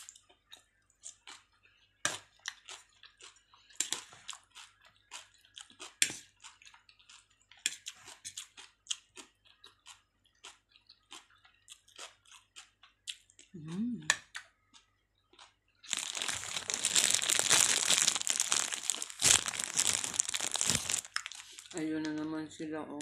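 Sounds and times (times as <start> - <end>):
chewing and lip-smacking: 0.0 - 21.8.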